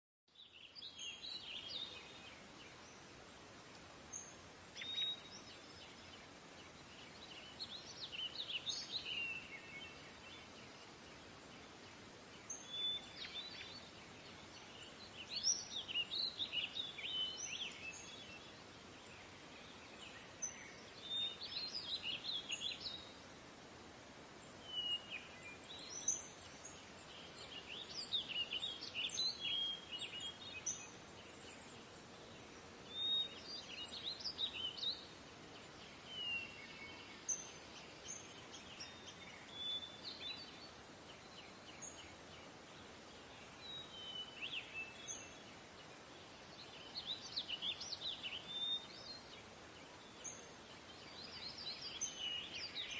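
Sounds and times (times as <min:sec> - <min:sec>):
nature ambience hiss: 0:00.3 - 0:52.9
small birds chirping: 0:00.3 - 0:52.9.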